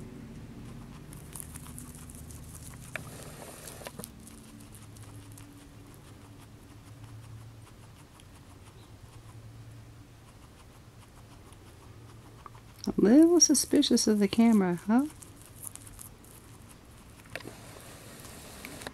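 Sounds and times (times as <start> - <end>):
guinea pig chewing leaves: 0.0 - 18.9.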